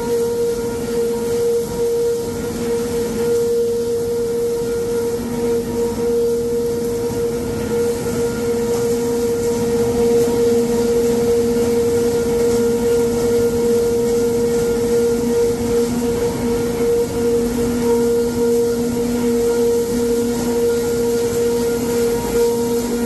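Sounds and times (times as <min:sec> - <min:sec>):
paper machinery humming: 0:00.0 - 0:23.0.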